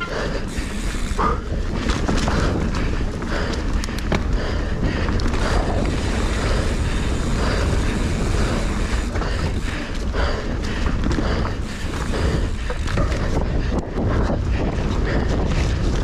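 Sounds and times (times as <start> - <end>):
bike rattling and knocking: 0.0 - 16.0
tyres rumbling over dirt: 0.0 - 16.0
wind buffeting microphone: 0.0 - 16.0.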